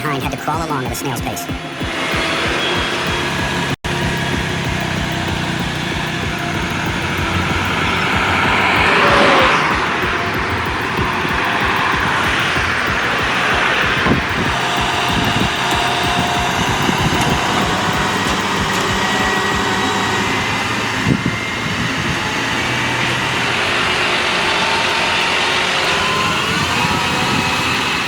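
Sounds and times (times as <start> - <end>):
heavy vehicle engine running: 0.0 - 28.0
thin whining tones: 0.0 - 28.0.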